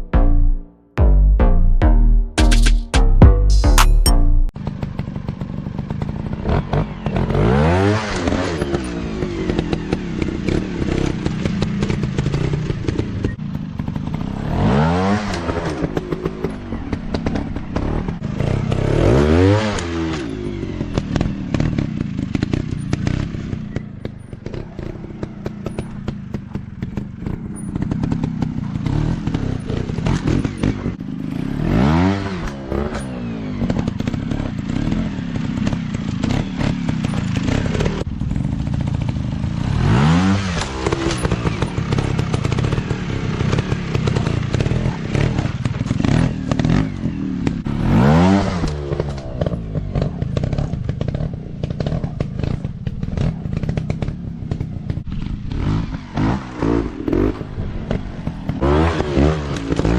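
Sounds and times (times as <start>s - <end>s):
dirt bike engines revving: 4.7s - 59.9s.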